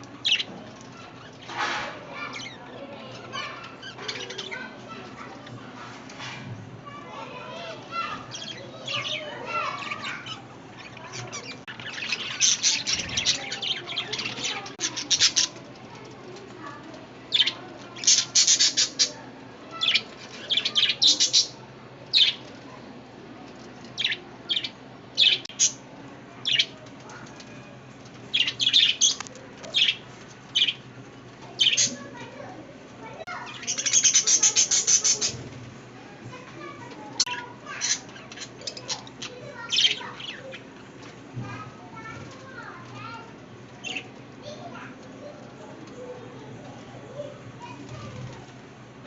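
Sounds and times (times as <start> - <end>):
parrots chirping and squawking: 0.2 - 16.1, 17.3 - 22.5, 23.6 - 25.8, 26.4 - 27.6, 28.3 - 30.8, 31.5 - 35.6, 36.3 - 43.2, 43.8 - 45.0.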